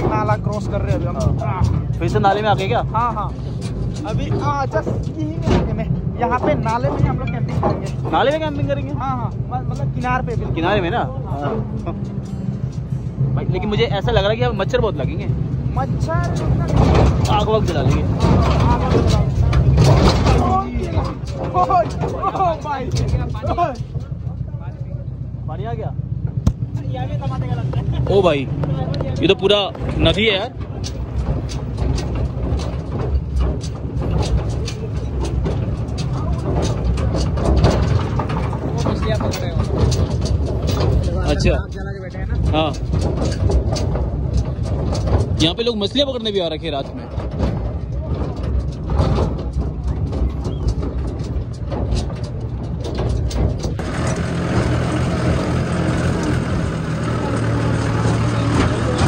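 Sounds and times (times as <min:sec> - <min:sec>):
tractor engine rumbling: 0:00.0 - 0:59.0.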